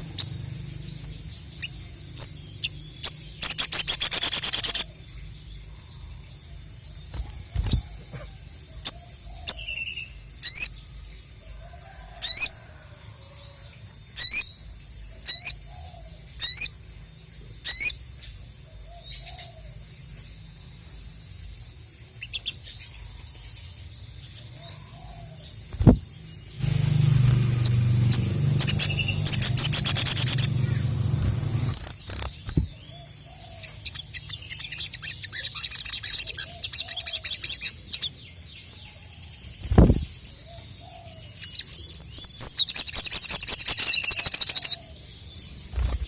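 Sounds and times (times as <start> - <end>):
bird chirping: 0.0 - 46.0
faint continuous twitter: 0.0 - 46.0.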